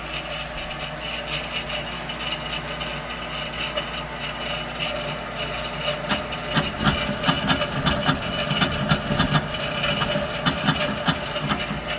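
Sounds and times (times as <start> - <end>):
heater humming: 0.0 - 11.9.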